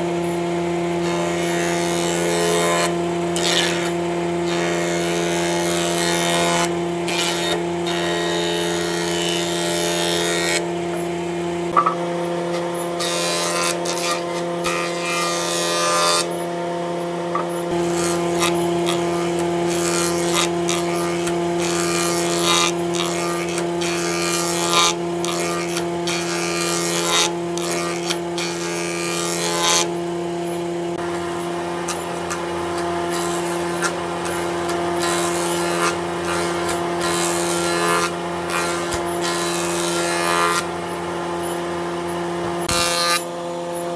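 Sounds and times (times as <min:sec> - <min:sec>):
power tool motor hum: 0:00.0 - 0:43.9.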